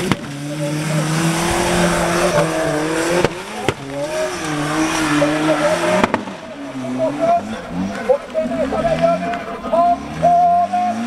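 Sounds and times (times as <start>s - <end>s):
buggy engine working hard: 0.0s - 11.0s.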